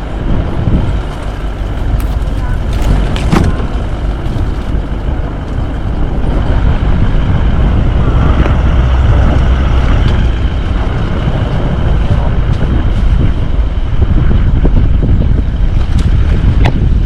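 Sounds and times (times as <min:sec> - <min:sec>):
vehicle engine low rumble: 0:00.0 - 0:17.0
wind noise: 0:00.0 - 0:17.0.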